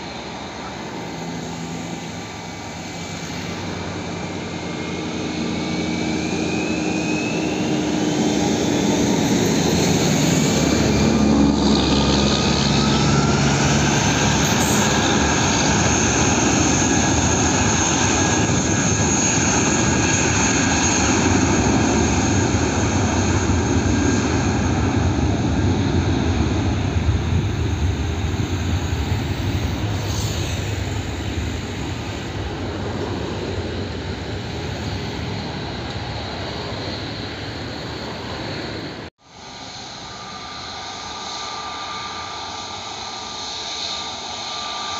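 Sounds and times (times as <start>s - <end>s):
jet engines spooling up: 0.0s - 44.9s
loud jet roar: 0.0s - 44.9s.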